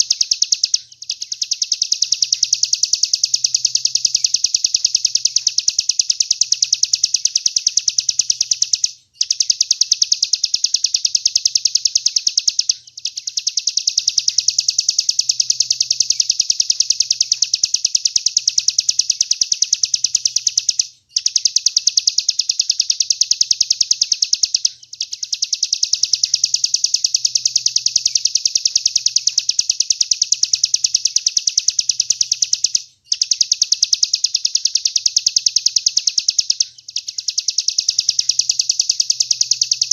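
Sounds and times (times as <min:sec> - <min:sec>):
songbird singing rapid high notes: 0:00.0 - 0:39.9.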